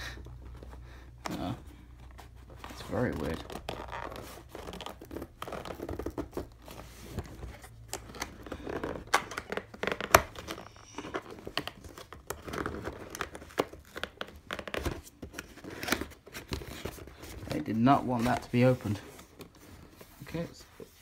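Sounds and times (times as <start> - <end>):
cardboard flaps scraping: 0.4 - 21.0
cardboard crackling and snapping: 1.2 - 19.6.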